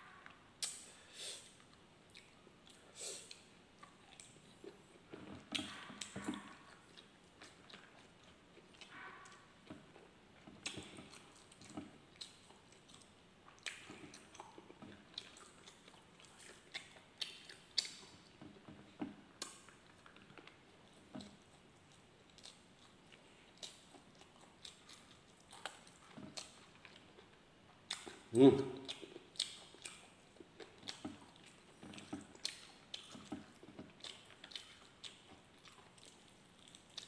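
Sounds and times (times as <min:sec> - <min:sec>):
man chewing food: 0:00.1 - 0:37.0.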